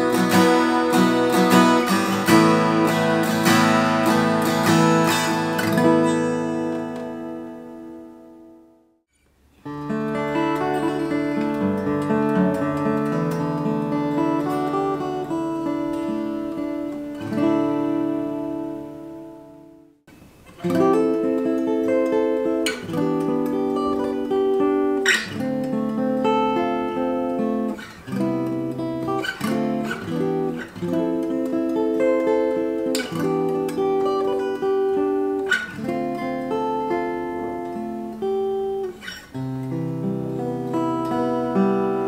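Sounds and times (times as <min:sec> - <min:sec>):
acoustic guitar fingerstyle: 0:00.0 - 0:42.0.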